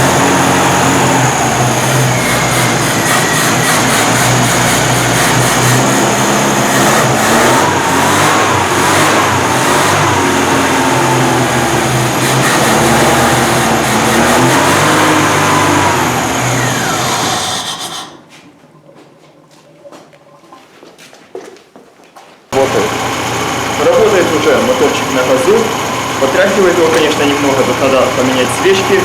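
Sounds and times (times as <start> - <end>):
car engine revving and idling: 0.0 - 18.2, 22.6 - 29.0.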